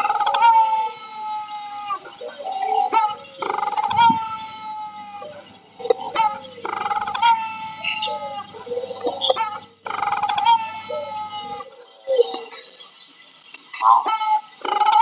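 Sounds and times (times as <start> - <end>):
bird long falling calls: 0.0 - 12.4
soft low bird calls: 0.0 - 12.7.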